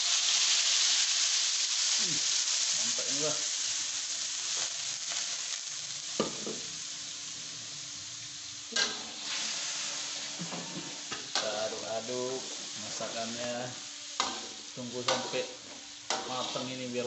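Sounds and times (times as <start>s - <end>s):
spice paste sizzling in oil: 0.0s - 17.0s.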